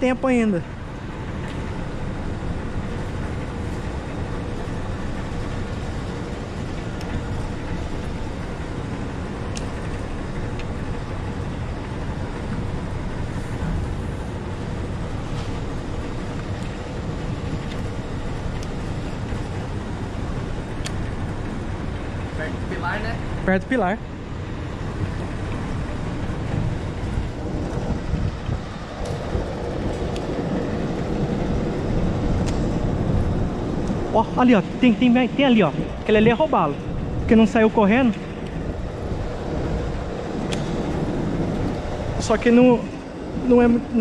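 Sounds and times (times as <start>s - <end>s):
boat motor rumbling: 0.0s - 44.0s.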